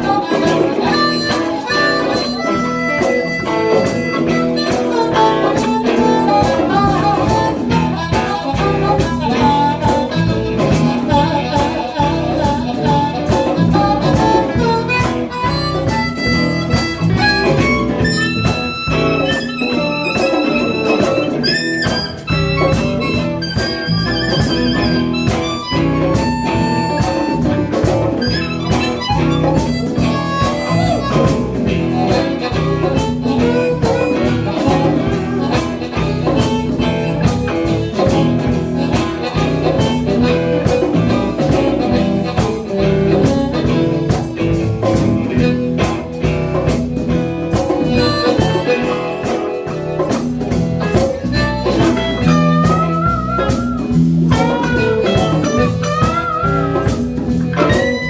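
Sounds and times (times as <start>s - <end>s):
guitar: 0.0s - 58.0s
harmonica: 0.0s - 58.0s
live blues band playing: 0.0s - 58.0s
steady drum beat: 0.0s - 58.0s.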